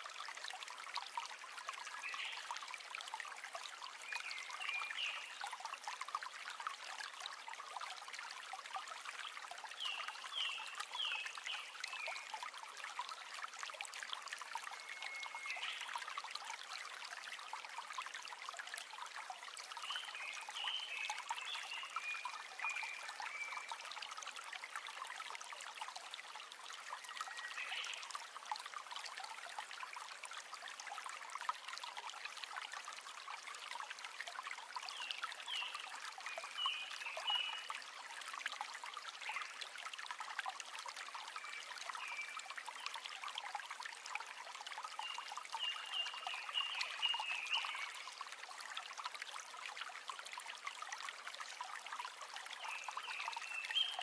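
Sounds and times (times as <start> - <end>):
river water trickling over stones: 0.0 - 54.0.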